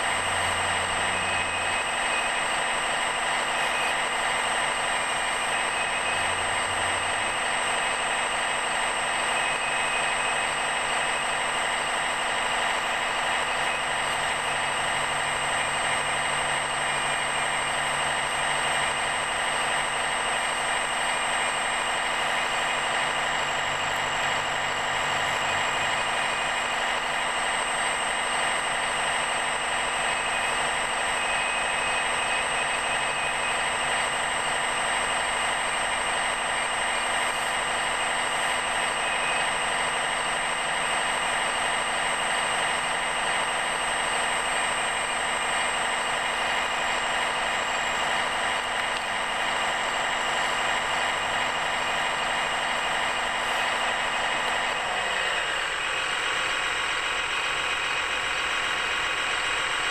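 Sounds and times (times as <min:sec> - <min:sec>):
toy excavator motor whining: 0:00.0 - 0:59.9.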